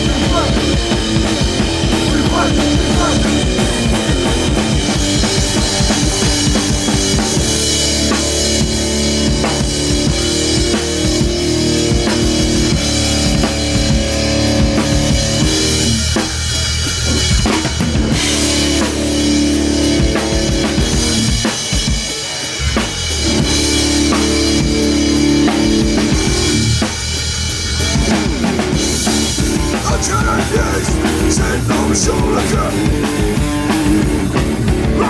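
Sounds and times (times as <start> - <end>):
drum kit bass drum and snare: 0.0 - 35.0
rock band playing: 0.0 - 35.0.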